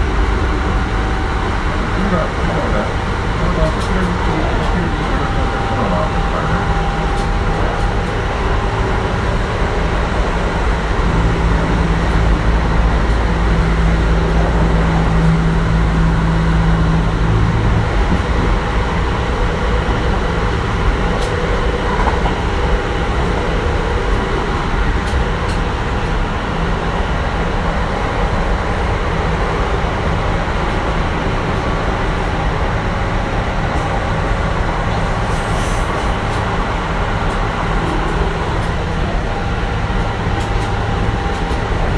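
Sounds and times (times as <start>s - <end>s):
electric train low hum: 0.0s - 41.9s
wheels rumbling on rail: 0.0s - 41.9s.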